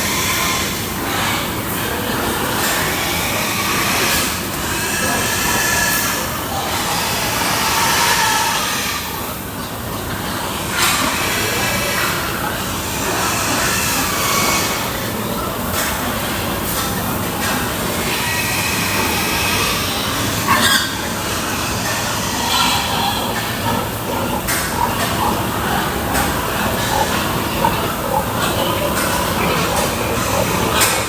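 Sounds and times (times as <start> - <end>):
pigs squealing and grunting: 0.0 - 31.0.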